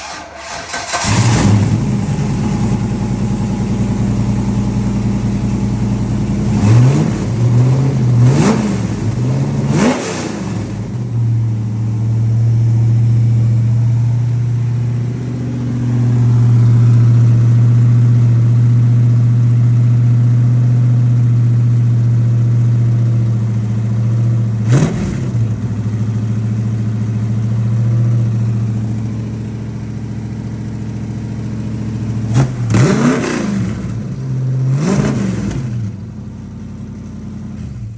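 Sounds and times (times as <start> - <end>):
car engine idling: 0.0 - 37.9
car engine starting: 0.0 - 37.9
car engine throttle blips: 0.0 - 37.9.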